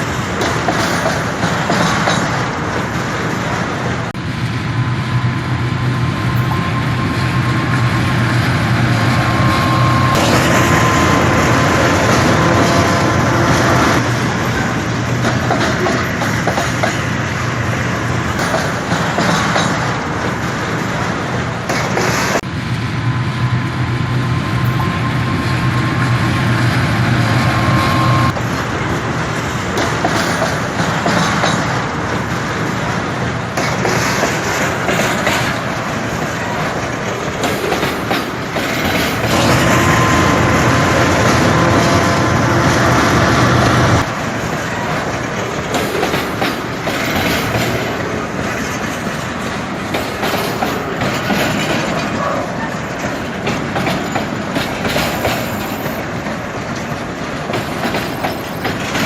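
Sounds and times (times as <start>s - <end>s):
train wheels clattering on rails: 0.0s - 22.5s, 24.5s - 59.0s.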